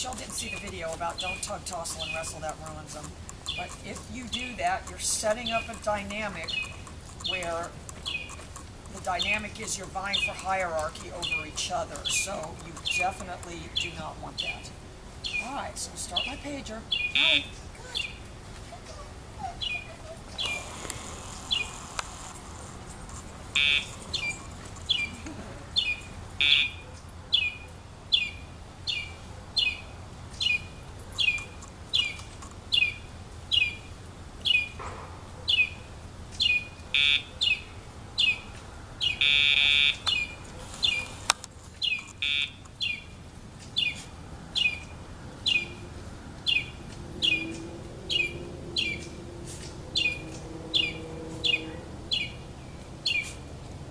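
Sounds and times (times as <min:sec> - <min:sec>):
bird chirping: 0:00.0 - 0:18.3, 0:18.9 - 0:20.8, 0:21.4 - 0:21.8, 0:23.5 - 0:34.8, 0:35.4 - 0:41.2, 0:41.8 - 0:45.8, 0:46.4 - 0:53.4.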